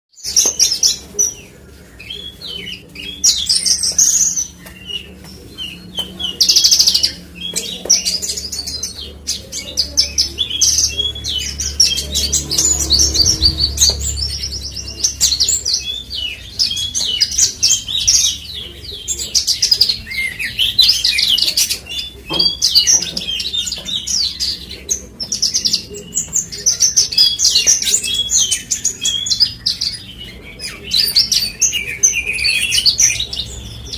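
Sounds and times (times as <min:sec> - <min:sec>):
bird singing high chirps and trills: 0:00.1 - 0:33.9.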